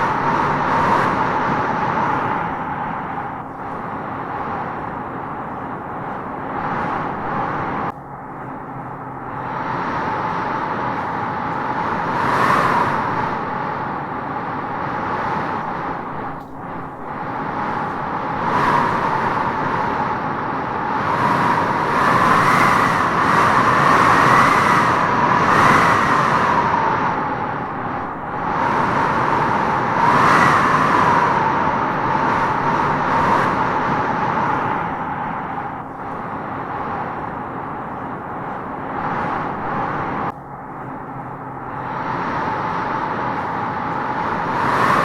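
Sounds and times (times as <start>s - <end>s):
wind howling through trees: 0.0s - 45.0s.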